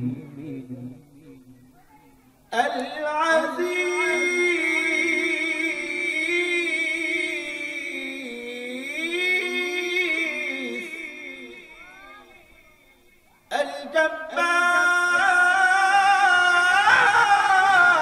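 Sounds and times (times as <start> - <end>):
man reciting melodically: 0.0 - 1.7, 2.4 - 18.0.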